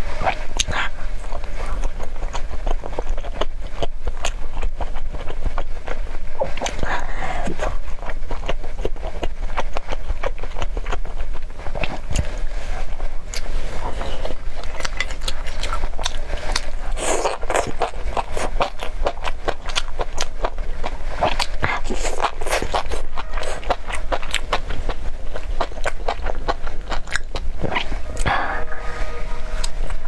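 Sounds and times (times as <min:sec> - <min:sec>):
low hum: 0:00.0 - 0:30.0
chewing and biting food: 0:00.2 - 0:28.3.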